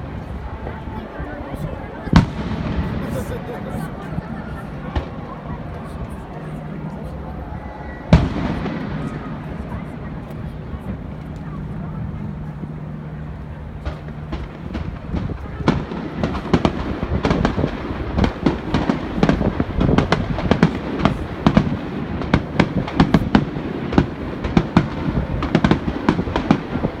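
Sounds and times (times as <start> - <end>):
fireworks bursting with sharp bangs: 0.0 - 7.2, 8.0 - 27.0
continuous low rumble: 0.0 - 27.0.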